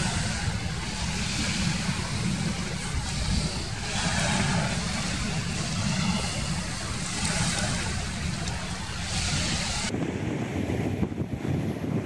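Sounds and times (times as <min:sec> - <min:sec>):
sea surf washing onto beach: 0:00.0 - 0:11.9
wind rumbling on microphone: 0:00.0 - 0:12.0.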